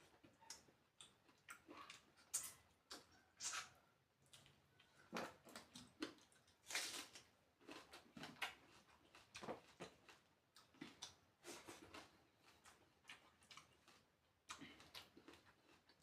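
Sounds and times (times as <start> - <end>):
person chewing with wet mouth sounds: 0.0 - 16.0.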